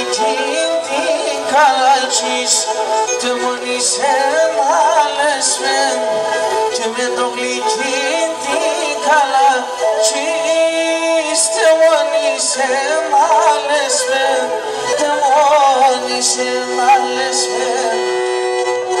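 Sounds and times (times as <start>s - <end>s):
bowed lyra long notes: 0.0s - 19.0s
man singing into microphone: 0.0s - 19.0s.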